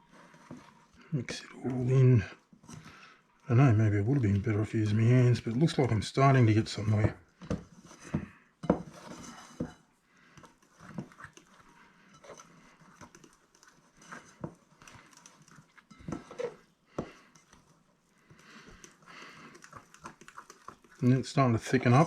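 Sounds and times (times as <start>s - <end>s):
spoon stirring paste in bowl: 0.0s - 22.0s.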